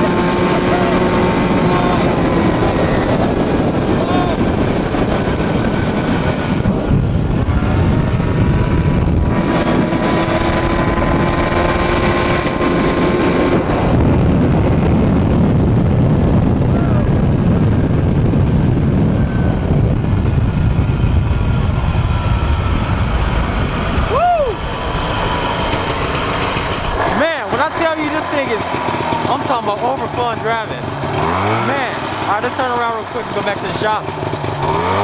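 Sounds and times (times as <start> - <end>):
two-stroke go-kart engine running: 0.0 - 35.0
wind rumble on microphone: 0.0 - 35.0.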